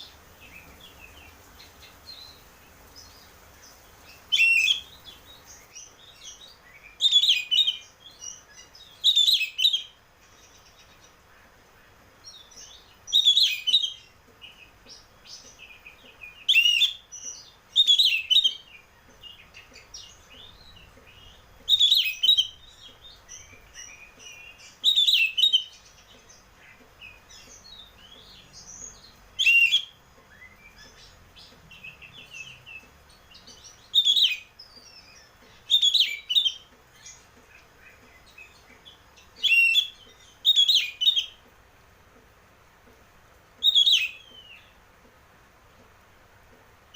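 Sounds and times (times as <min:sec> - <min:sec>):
soft bird twittering: 0:00.0 - 0:11.6, 0:12.3 - 0:41.4, 0:43.6 - 0:44.8
bird singing loud phrases: 0:00.0 - 0:41.4, 0:43.6 - 0:44.8.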